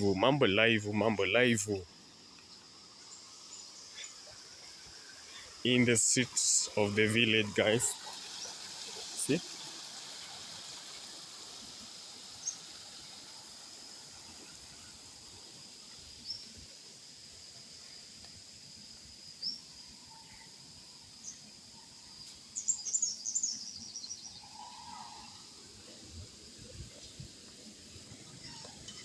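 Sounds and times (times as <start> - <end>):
high insect drone: 0.0 - 29.0.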